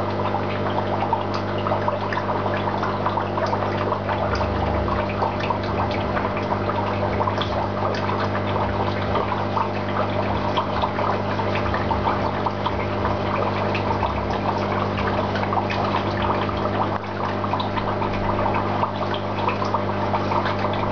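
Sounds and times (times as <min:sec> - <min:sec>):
aquarium water bubbling: 0:00.0 - 0:20.9
low pump hum: 0:00.0 - 0:20.9.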